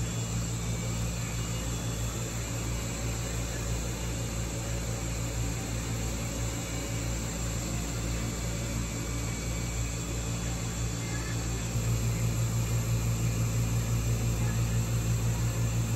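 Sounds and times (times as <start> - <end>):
aquarium pumps humming and hissing: 0.0 - 15.9.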